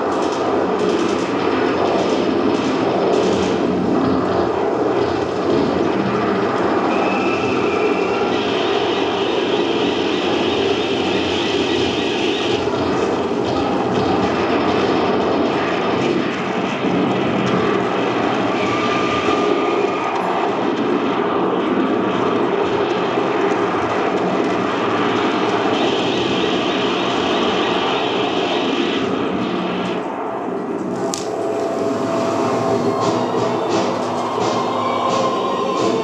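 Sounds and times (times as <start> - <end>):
aircraft engines droning over loudspeakers: 0.0 - 36.0.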